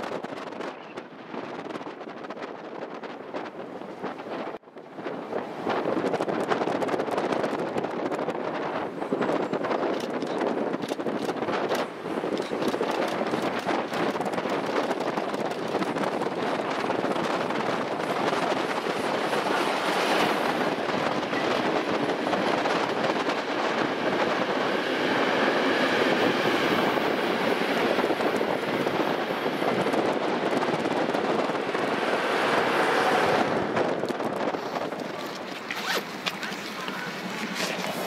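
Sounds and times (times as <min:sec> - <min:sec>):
train rumbling along rails: 0:00.0 - 0:38.0.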